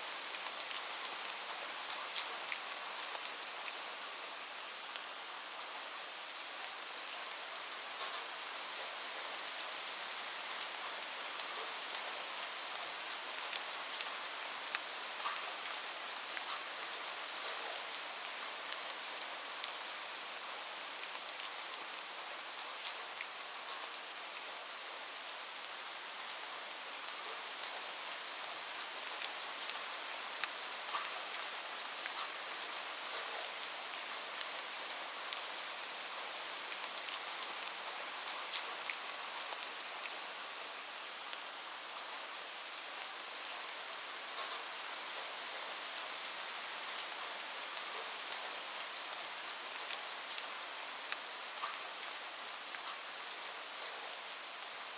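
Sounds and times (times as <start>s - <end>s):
raindrops ticking on a surface: 0.0s - 3.9s, 7.9s - 40.2s, 43.5s - 54.9s
light rain hiss: 0.0s - 54.9s.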